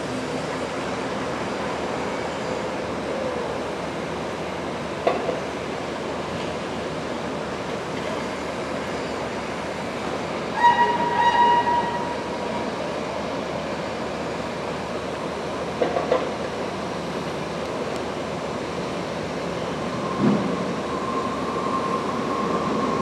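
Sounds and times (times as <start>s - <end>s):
locomotive hauling train: 0.0s - 23.0s.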